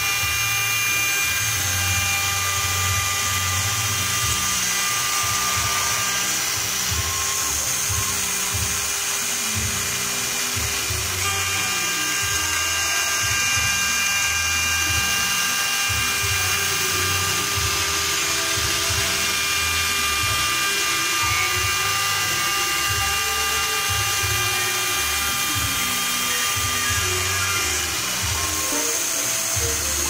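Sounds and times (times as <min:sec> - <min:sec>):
hiss of metal cutting: 0:00.0 - 0:30.0
milling machine spindle whine: 0:00.0 - 0:30.0.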